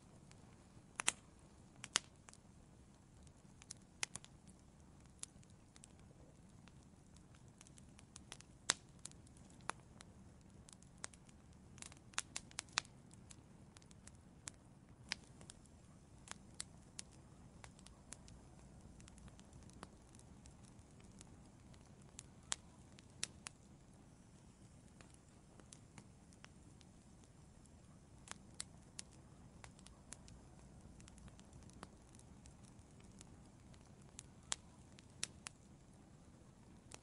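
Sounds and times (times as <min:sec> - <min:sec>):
low hiss of flames: 0:00.0 - 0:37.0
wood fire crackling: 0:00.0 - 0:37.0.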